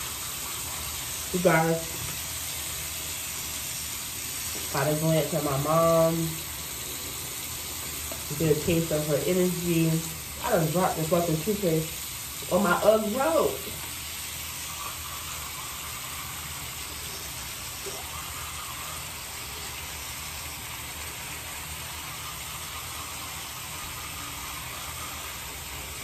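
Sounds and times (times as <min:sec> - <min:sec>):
water running from sink tap: 0:00.0 - 0:26.0.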